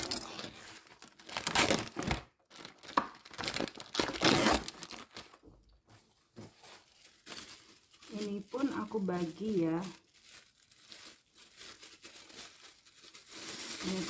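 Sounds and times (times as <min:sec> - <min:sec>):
plastic film crinkling and tearing: 0:00.0 - 0:05.4, 0:06.4 - 0:14.0.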